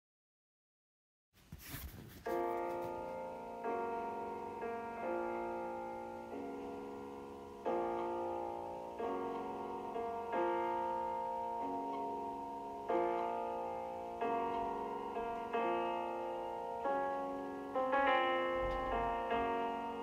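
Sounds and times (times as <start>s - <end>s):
slow piano chords: 2.2s - 20.0s.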